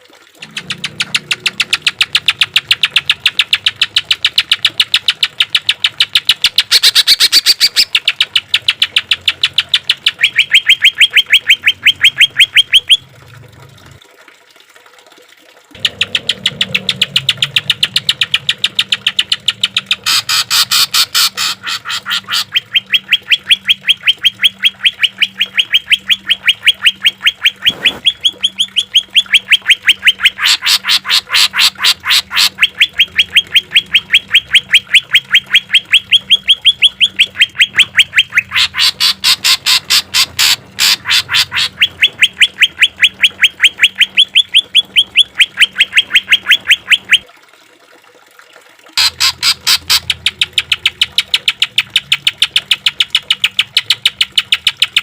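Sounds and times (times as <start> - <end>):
bird song rapid repeated notes: 0.4 - 13.1, 15.8 - 47.2, 49.0 - 55.0.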